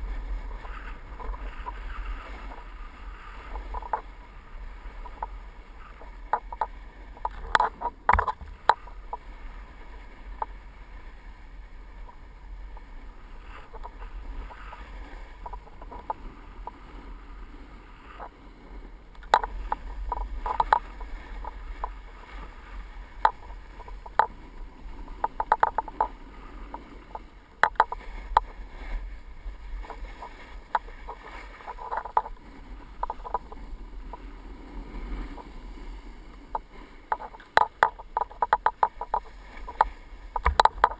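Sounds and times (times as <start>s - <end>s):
wind rumbling on microphone: 0.0s - 40.9s.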